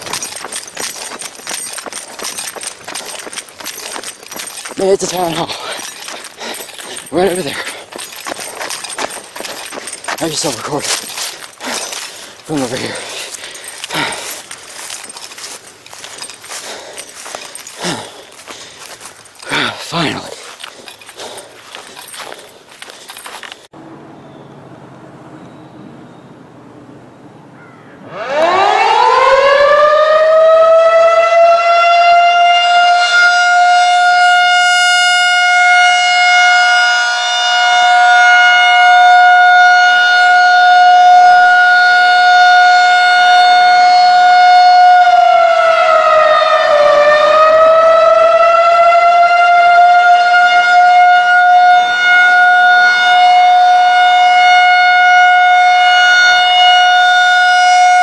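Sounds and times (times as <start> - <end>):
warning siren wailing: 0.0 - 24.1, 28.0 - 58.0.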